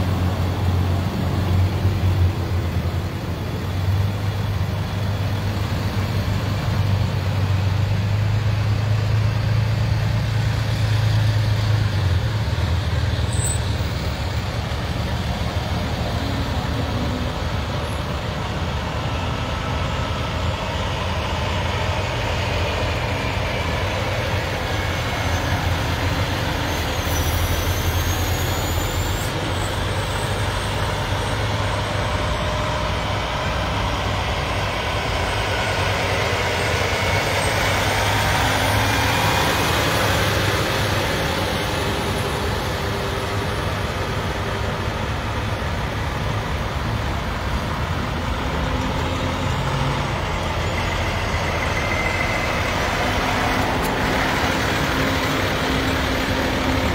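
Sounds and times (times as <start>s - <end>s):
heavy trucks driving past: 0.0s - 56.9s
road noise: 0.0s - 56.9s.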